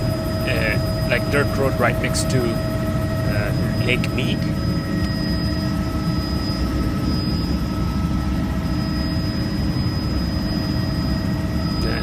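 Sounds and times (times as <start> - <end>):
helicopter rotor and engine rumble: 0.0 - 12.0
high whine: 0.0 - 12.0.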